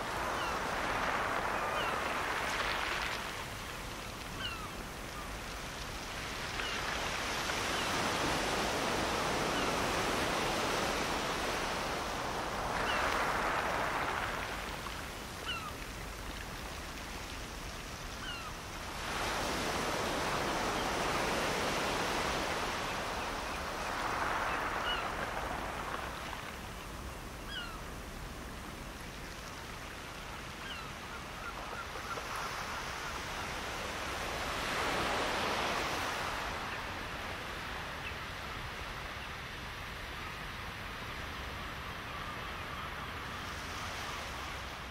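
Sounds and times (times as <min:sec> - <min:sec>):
small waves breaking on sand: 0:00.0 - 0:44.9.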